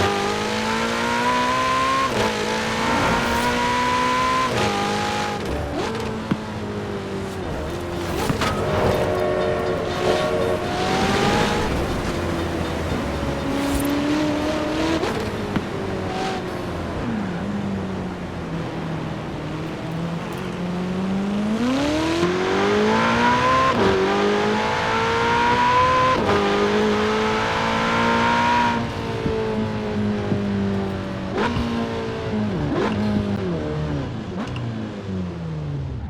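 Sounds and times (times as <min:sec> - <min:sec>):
car engine revving through gears: 0:00.0 - 0:35.9.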